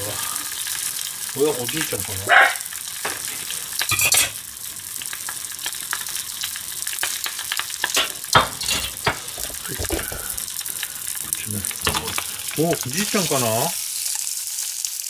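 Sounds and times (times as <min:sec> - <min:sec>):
cooking fat sizzling: 0:00.0 - 0:15.0.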